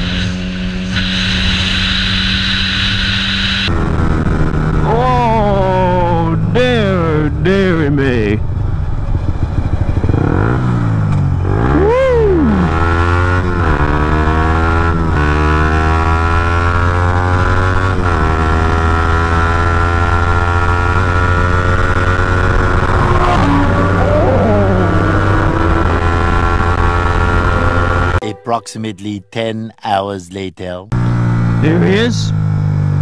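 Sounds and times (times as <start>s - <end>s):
motorcycle engine revving: 0.0s - 28.2s, 30.9s - 33.0s.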